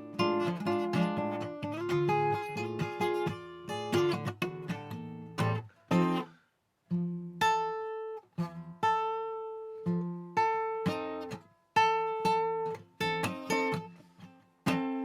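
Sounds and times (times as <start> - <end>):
acoustic guitar playing blues: 0.0 - 15.0.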